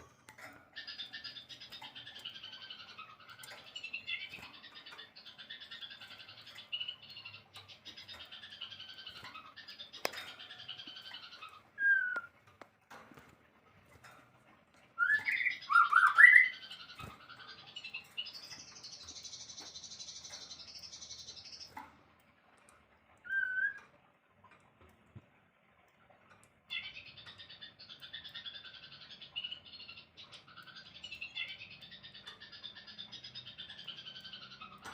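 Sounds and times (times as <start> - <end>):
songbird singing: 0.0 - 24.7, 26.3 - 34.9.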